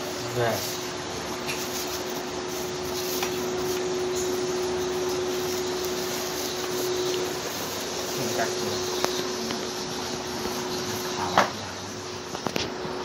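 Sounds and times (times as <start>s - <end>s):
plastic bags rustling: 0.0s - 12.8s
induction cooktop hum: 0.0s - 13.0s.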